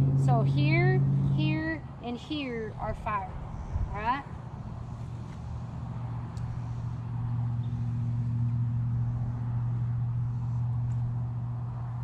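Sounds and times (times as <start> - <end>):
low machine hum: 0.0 - 12.0
outdoor background noise: 0.0 - 12.0.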